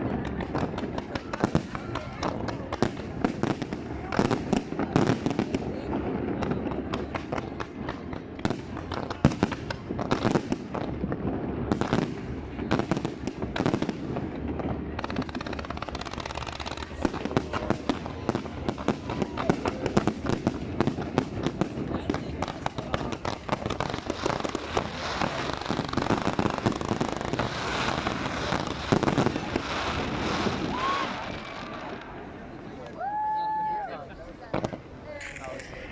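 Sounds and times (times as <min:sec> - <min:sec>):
fireworks bangs and crackles: 0:00.0 - 0:35.9.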